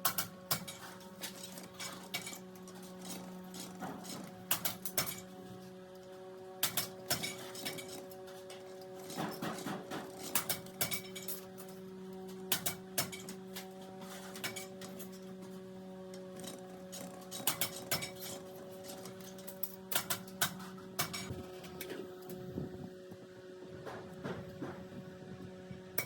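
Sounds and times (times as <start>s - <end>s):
electric machine hum: 0.0s - 26.0s.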